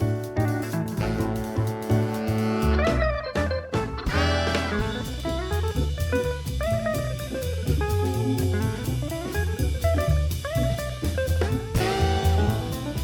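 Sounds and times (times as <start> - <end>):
jazzy music with drums bass guitar: 0.0 - 13.0.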